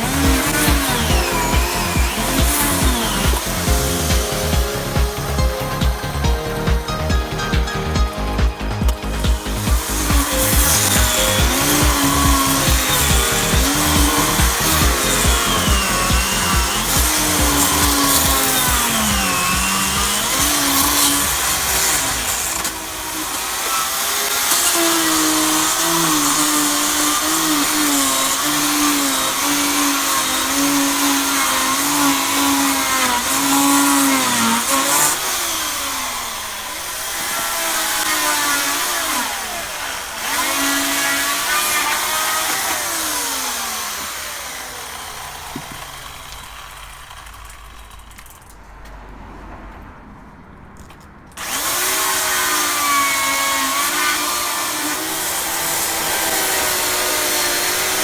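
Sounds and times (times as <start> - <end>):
chainsaw engine running: 0.0 - 48.5, 51.4 - 58.0.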